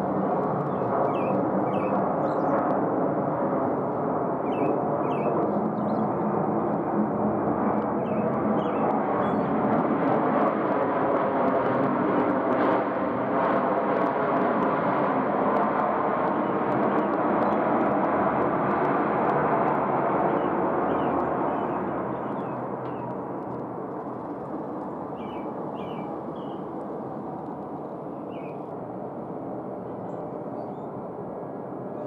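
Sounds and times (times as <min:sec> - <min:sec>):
jet engine noise: 0:00.0 - 0:32.0.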